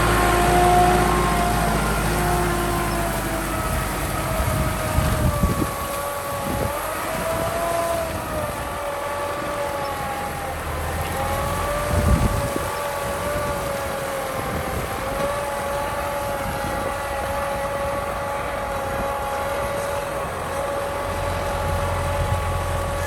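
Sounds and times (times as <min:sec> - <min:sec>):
tractor running under load: 0:00.0 - 0:23.0.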